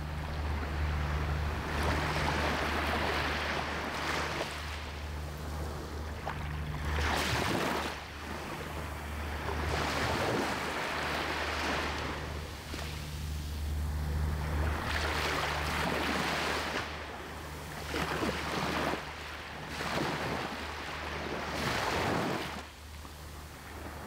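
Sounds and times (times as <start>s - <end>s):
small waves washing over sand: 0.0s - 13.5s, 14.2s - 22.7s.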